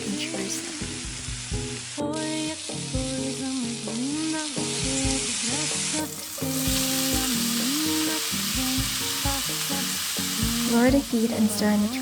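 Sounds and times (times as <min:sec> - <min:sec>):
background music with a beat: 0:00.0 - 0:12.0
food sizzling in a pan: 0:00.0 - 0:12.0.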